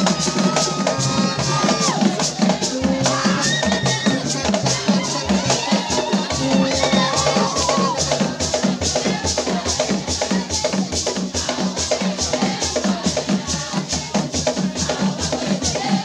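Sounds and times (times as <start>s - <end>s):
fast drumming: 0.0s - 16.0s
shaker-like rattle: 0.0s - 16.0s.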